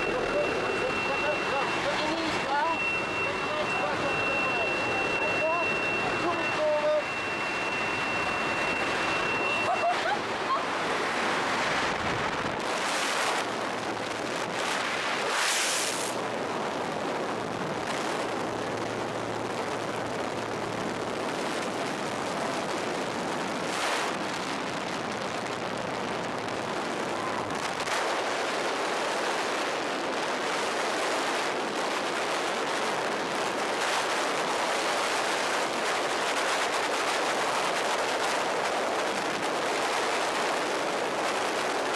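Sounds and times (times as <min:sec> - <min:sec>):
wind buffets: 0:00.0 - 0:41.9
wind rushing over microphone: 0:00.0 - 0:41.9.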